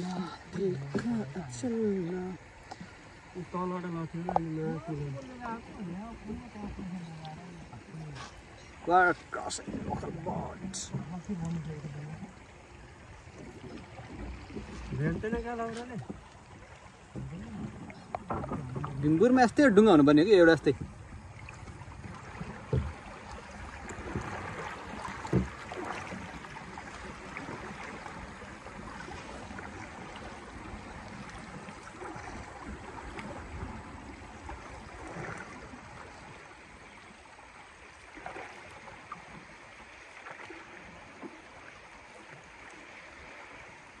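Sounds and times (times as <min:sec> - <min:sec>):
knocks and splashes: 0:00.0 - 0:44.0
water lapping against a canoe: 0:00.0 - 0:44.0.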